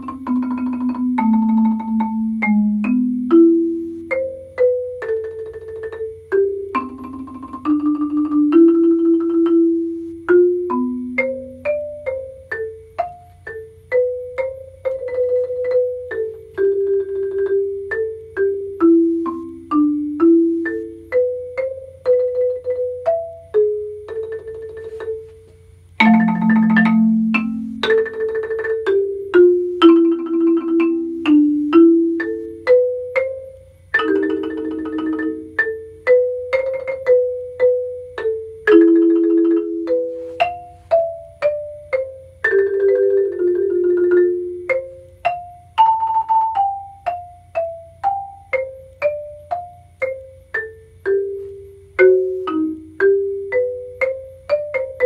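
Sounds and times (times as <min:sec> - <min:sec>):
marimba melody: 0:00.0 - 0:55.0
marimba rolled chords: 0:00.0 - 0:55.0.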